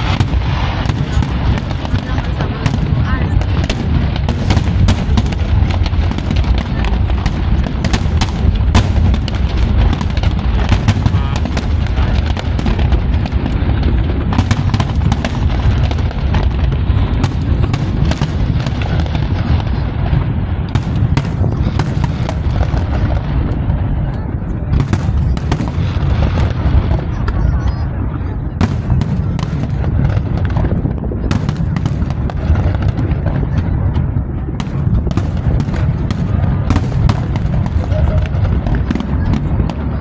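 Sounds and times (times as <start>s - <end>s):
fireworks booming: 0.0s - 40.0s
fireworks crackling: 0.0s - 40.0s.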